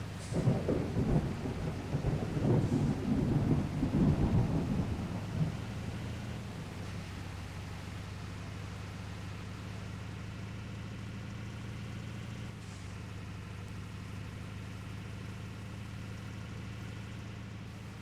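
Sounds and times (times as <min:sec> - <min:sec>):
truck engine droning: 0:00.0 - 0:18.0.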